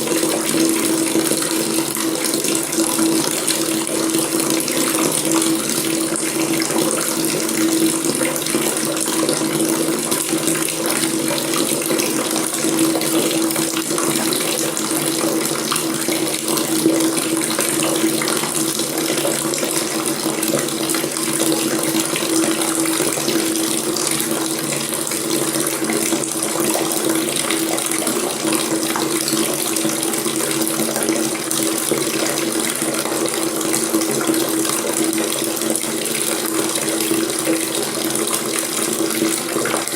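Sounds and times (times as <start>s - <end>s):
water running from a faucet: 0.0s - 39.9s.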